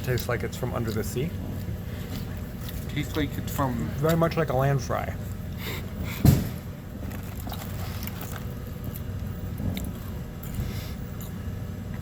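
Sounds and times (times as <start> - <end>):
person chewing crunchy fries: 0.0 - 6.0, 6.9 - 12.0.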